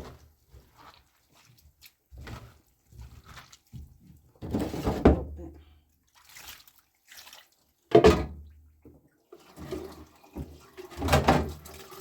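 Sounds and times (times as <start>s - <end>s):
water splashing and pouring: 0.0s - 12.0s.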